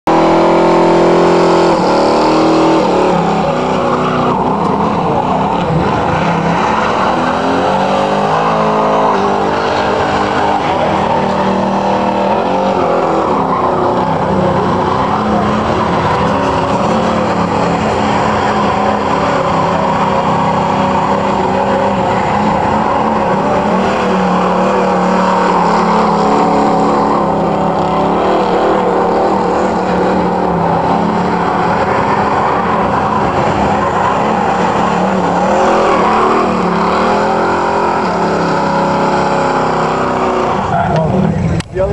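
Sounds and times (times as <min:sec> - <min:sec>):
car engine at high revs: 0:00.0 - 0:41.9
tyres squealing: 0:01.5 - 0:41.6.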